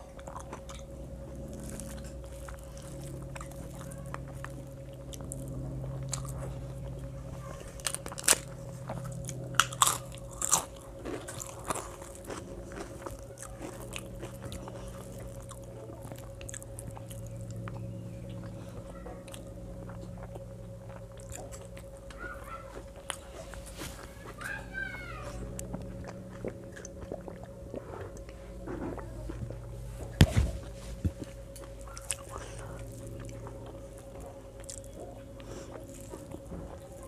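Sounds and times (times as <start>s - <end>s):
soft chewing: 0.0s - 37.0s
crisp crunches of biting: 0.1s - 24.5s, 25.3s - 37.0s.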